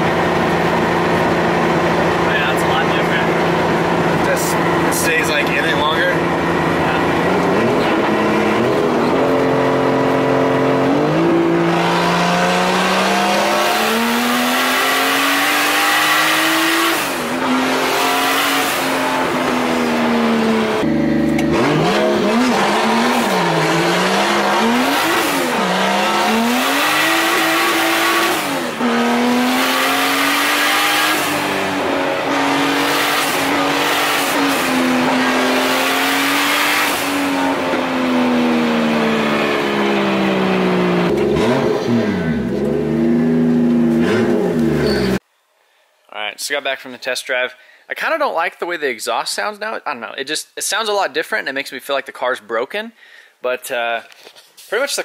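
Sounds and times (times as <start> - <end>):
turbocharged car engine accelerating: 0.0 - 45.2.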